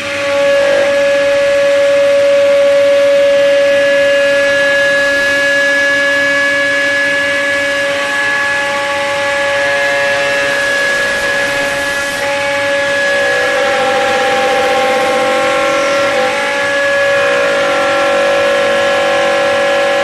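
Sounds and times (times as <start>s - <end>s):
wood shaper spindle whining: 0.0s - 20.0s.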